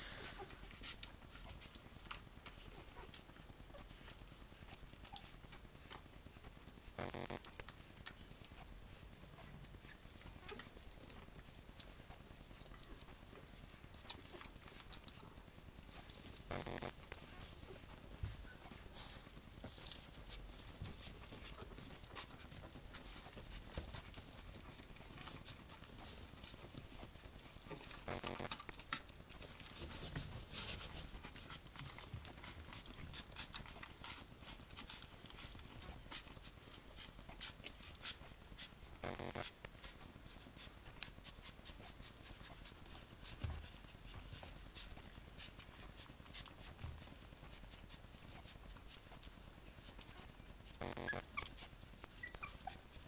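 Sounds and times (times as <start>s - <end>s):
puppies suckling: 0.0s - 53.0s
puppy whimpering: 0.0s - 53.0s.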